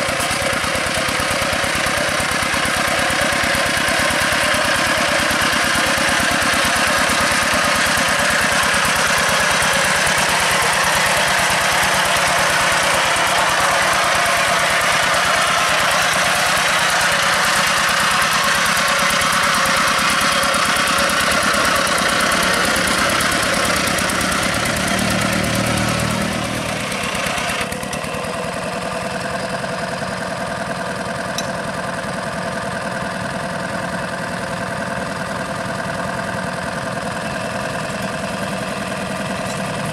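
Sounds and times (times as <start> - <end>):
diesel engine chugging under load: 0.0 - 39.9.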